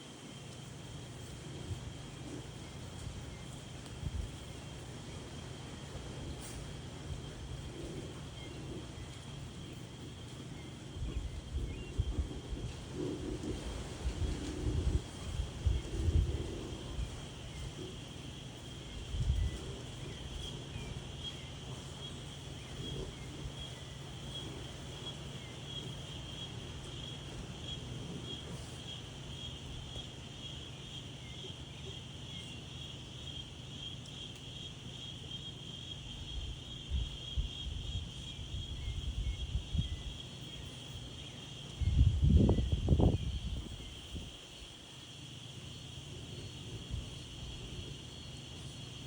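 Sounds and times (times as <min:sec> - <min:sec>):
insects chirping: 0:00.0 - 0:49.0
wind rumbling on microphone: 0:00.7 - 0:31.5, 0:36.1 - 0:49.0.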